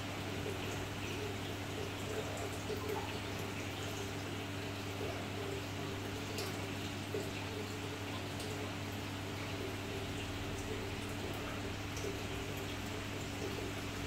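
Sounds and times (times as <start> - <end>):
aquarium pump humming: 0.0 - 14.0
water bubbling and trickling: 0.0 - 14.0.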